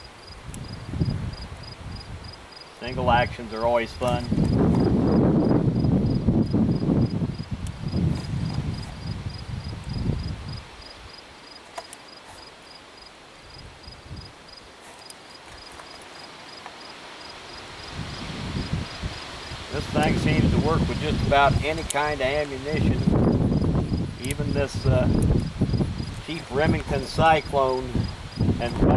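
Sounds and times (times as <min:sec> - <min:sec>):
insects chirping: 0:00.0 - 0:28.7.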